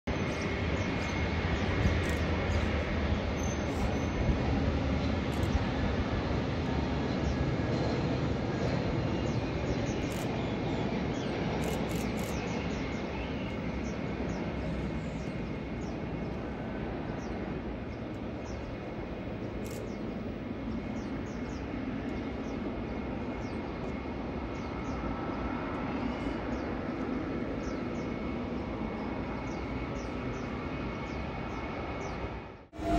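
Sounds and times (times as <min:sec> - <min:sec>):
jet engines rumbling: 0:00.1 - 0:32.9.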